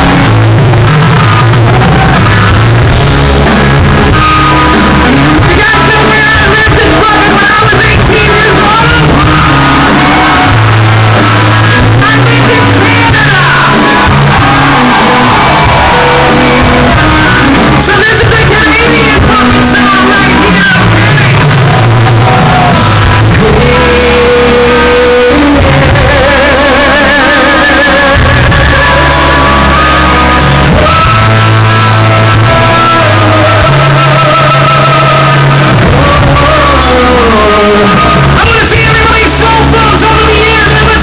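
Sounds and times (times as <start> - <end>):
live rock band with vocals: 0.0 - 41.0.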